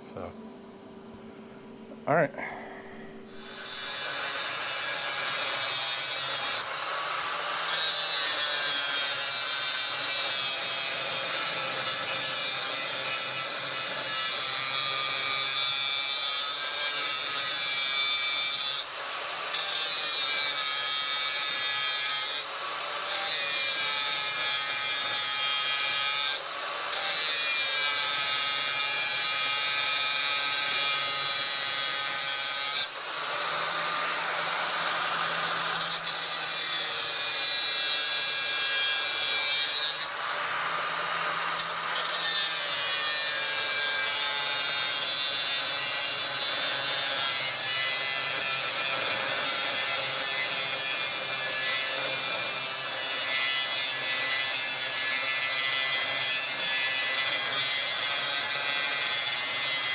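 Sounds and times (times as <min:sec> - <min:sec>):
power tool whining against steel: 0:03.3 - 0:59.9.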